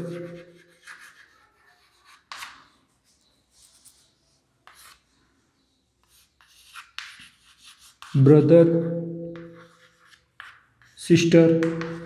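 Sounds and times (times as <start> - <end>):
chalk scratching on blackboard: 0.0 - 5.2, 6.0 - 8.3, 9.3 - 12.0.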